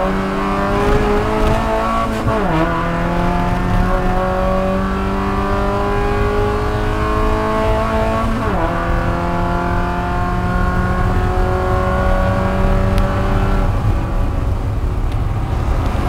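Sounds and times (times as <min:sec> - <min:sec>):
race car engine accelerating: 0:00.0 - 0:16.0
road and wind noise: 0:00.0 - 0:16.0.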